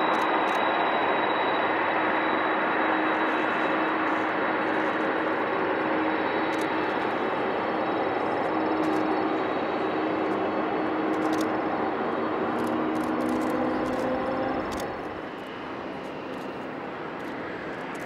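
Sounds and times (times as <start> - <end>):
jet engines roaring: 0.0 - 18.0
quieter jet engine noise: 0.0 - 18.0.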